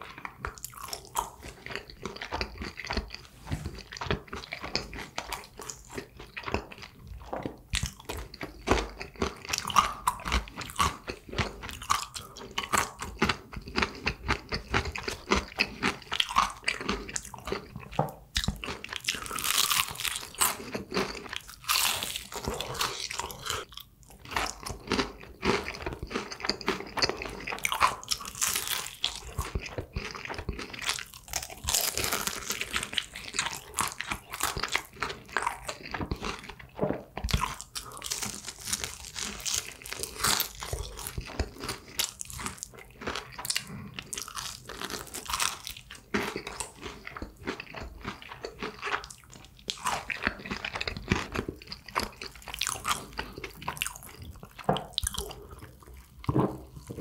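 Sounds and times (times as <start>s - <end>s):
person chewing crunchy fried chicken: 0.0s - 57.0s.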